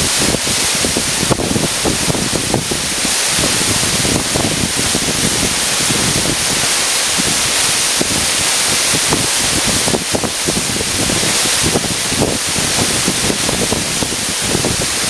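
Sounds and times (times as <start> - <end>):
water splashing: 0.0 - 15.0
waterfall rushing: 0.0 - 15.0.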